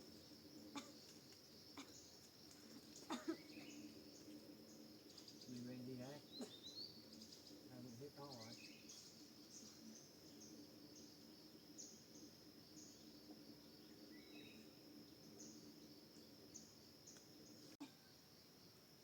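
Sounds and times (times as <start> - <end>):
short insect chirps: 0.0 - 19.0.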